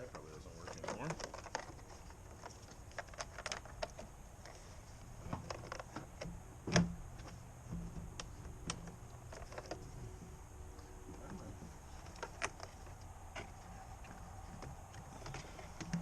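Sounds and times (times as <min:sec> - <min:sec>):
wiring and door parts rattling: 0:00.0 - 0:04.6, 0:05.2 - 0:10.3, 0:11.1 - 0:16.0.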